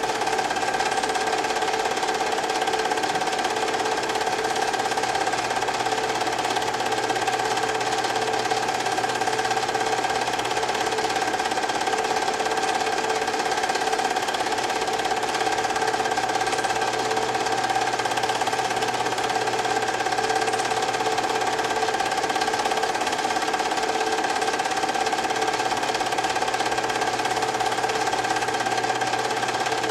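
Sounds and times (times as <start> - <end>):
film projector running: 0.0 - 29.9.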